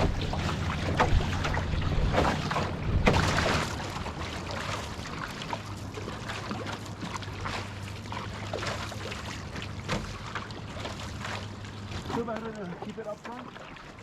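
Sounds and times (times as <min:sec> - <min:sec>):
paddle splashes: 0:00.0 - 0:14.0
water trickling and splashing: 0:00.0 - 0:14.0.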